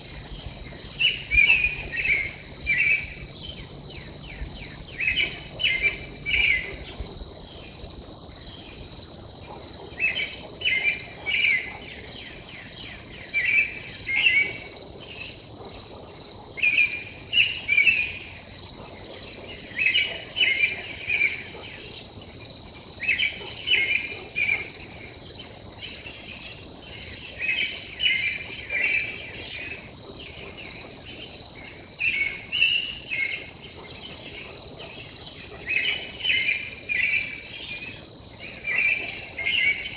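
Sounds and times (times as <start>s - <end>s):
high-pitched insect chorus: 0.0s - 39.9s
songbird singing: 0.0s - 39.9s.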